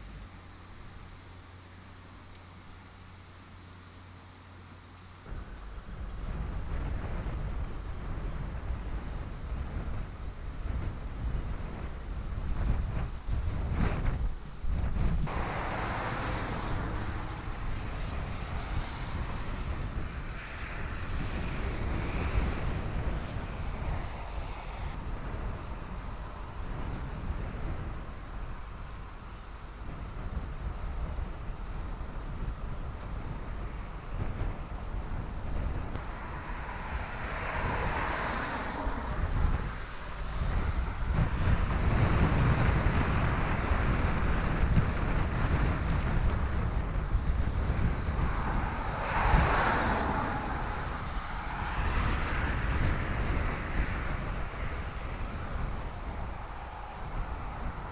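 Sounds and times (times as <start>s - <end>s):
vehicles passing: 0.0s - 57.9s
wind buffeting microphone: 0.0s - 57.9s.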